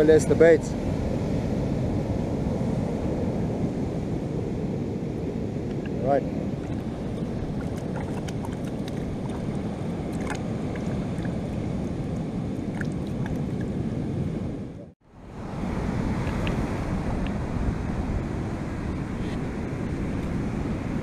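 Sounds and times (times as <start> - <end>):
wind rushing on microphone: 0.0 - 21.0.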